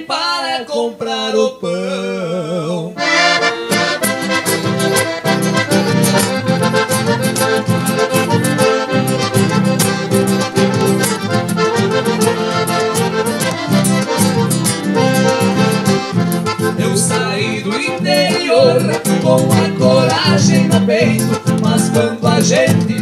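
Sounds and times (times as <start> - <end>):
accordion melody: 3.0 - 23.0
band backing rhythm: 3.0 - 23.0.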